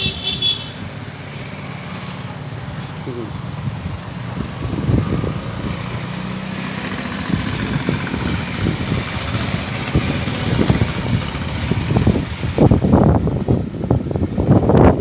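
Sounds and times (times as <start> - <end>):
wind buffeting microphone: 2.5 - 15.0
strong wind gusts: 2.6 - 15.0.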